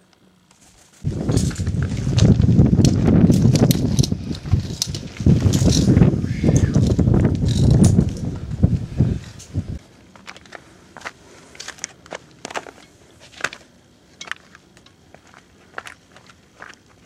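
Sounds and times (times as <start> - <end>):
footsteps on gravel: 0.6 - 17.0.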